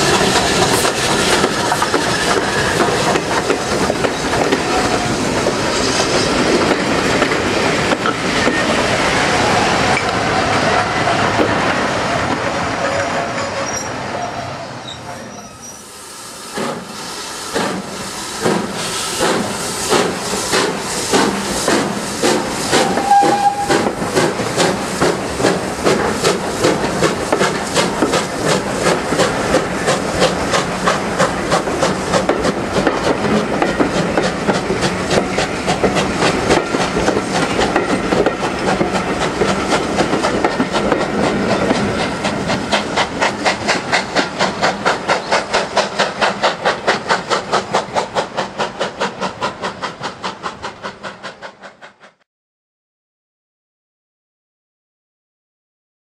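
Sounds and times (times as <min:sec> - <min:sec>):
steam hiss: 0:00.0 - 0:11.8, 0:15.3 - 0:52.2
steam train pulling away: 0:00.0 - 0:52.2.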